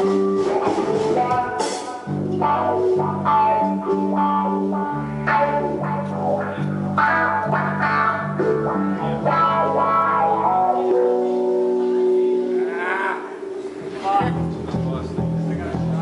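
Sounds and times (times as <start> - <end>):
bass guitar line: 0.0 - 16.0
electric guitar playing rock: 0.0 - 16.0.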